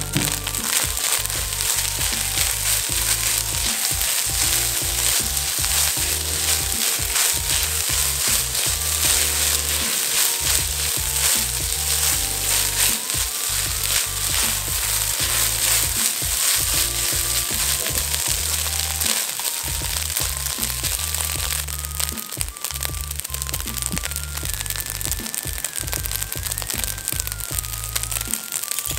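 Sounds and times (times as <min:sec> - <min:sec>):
background music: 0:00.0 - 0:28.9
rice sizzling in a wok: 0:00.0 - 0:28.9.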